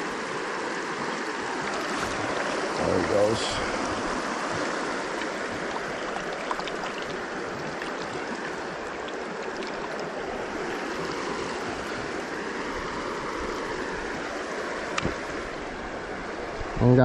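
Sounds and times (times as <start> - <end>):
faint water splashes: 0.0 - 16.9
creek flowing over stones: 0.0 - 17.0.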